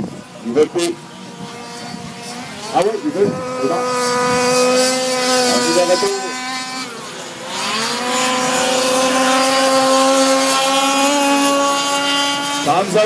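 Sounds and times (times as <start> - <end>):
small two-stroke engines buzzing: 0.0 - 13.0.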